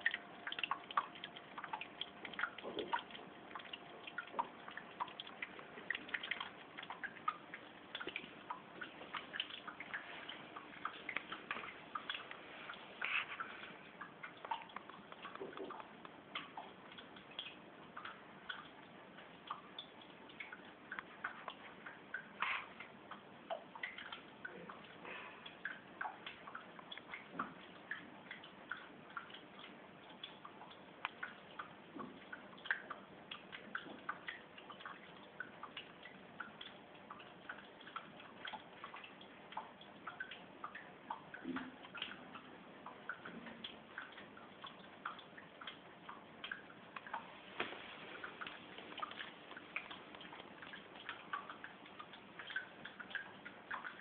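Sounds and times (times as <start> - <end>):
faint steady water hiss: 0.0 - 54.0
water drips and plinks: 0.0 - 54.0.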